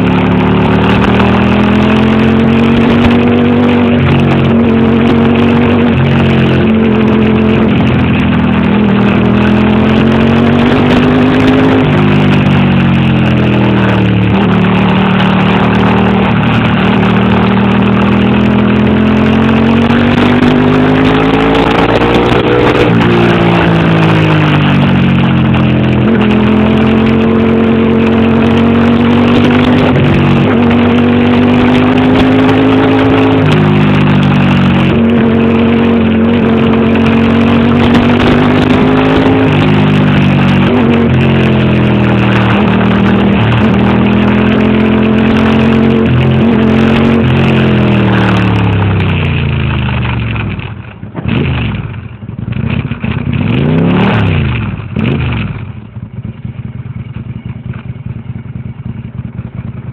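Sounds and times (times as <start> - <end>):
motorcycle engine revving: 0.0 - 59.9
motorcycle engine running: 0.0 - 59.9.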